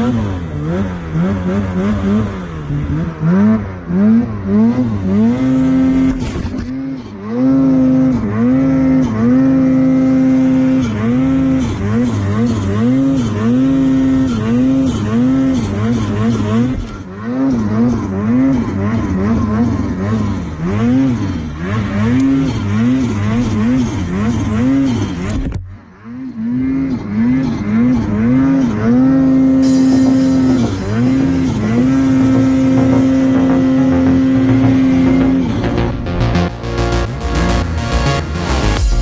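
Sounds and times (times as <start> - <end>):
snowmobile engine revving: 0.0 - 25.4, 26.0 - 39.0.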